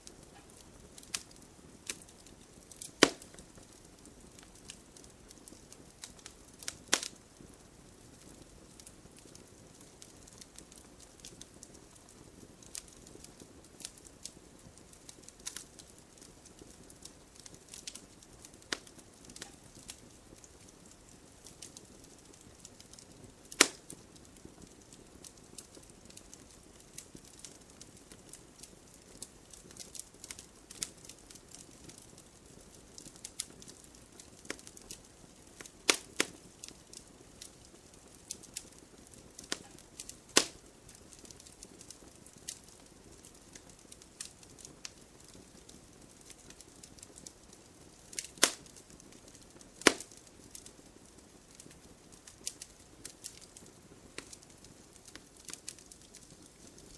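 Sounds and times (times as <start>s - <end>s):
burning wood popping: 0.0s - 56.9s
soft hiss: 0.0s - 56.9s
wood fire crackling: 0.0s - 56.9s.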